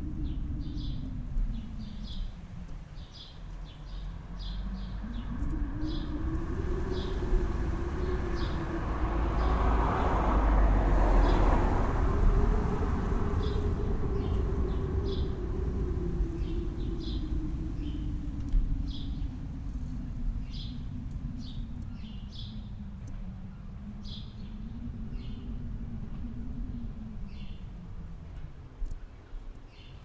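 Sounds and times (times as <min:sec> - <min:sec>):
wind whistling: 0:00.0 - 0:30.0.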